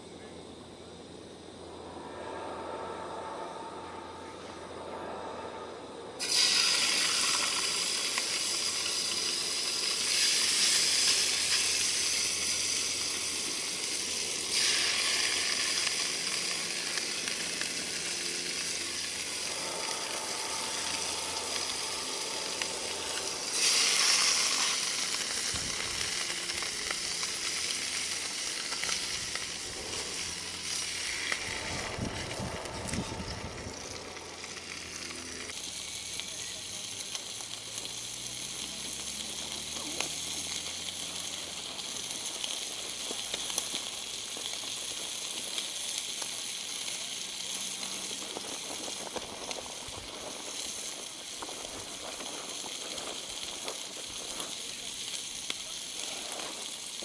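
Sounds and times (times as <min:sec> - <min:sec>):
food sizzling in frying pan: 0:06.2 - 0:57.0.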